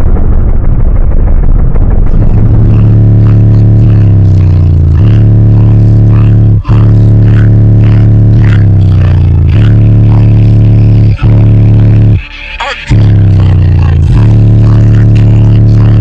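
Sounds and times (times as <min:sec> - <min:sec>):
distorted subwoofer bass music: 0:00.0 - 0:16.0.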